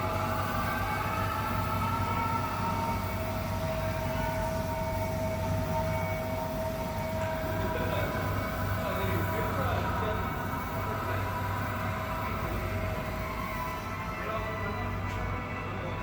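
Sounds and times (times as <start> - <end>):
floor sweeper humming and whining: 0.0 - 16.0.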